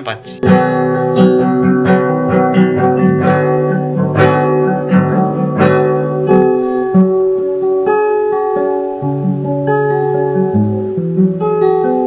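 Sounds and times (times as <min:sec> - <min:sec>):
strummed and plucked guitar: 0:00.0 - 0:12.0.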